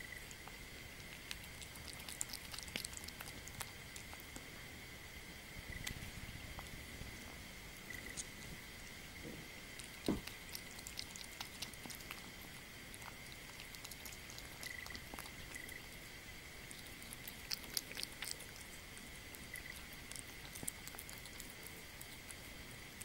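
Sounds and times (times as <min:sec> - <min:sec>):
kitten chewing and lapping: 0:00.0 - 0:23.0.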